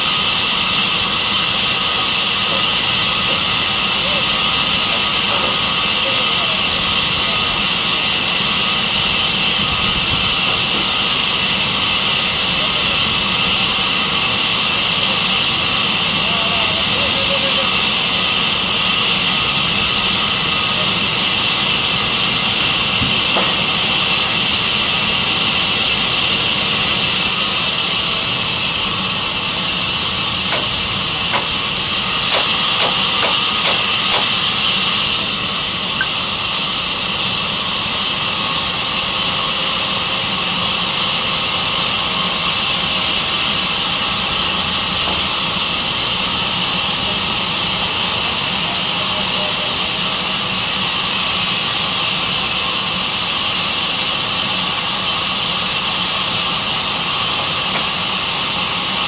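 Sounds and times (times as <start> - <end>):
band saw whining: 0.0 - 59.0.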